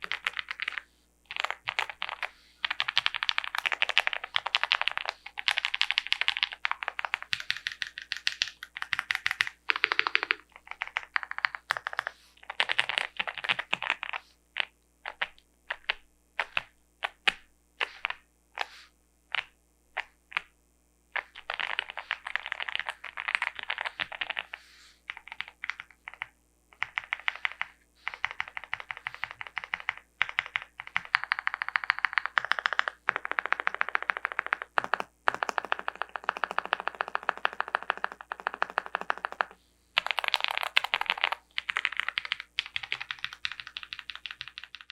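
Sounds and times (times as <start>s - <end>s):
mechanical keyboard typing: 0.0s - 18.7s, 21.2s - 24.5s, 25.1s - 44.9s.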